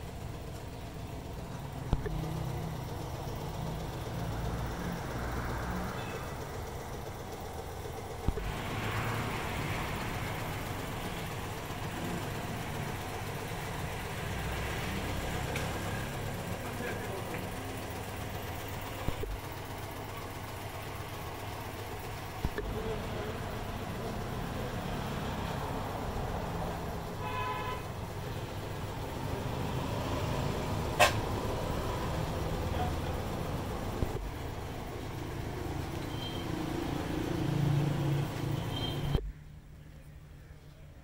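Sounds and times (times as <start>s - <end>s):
low mechanical rumble: 0.0s - 41.0s.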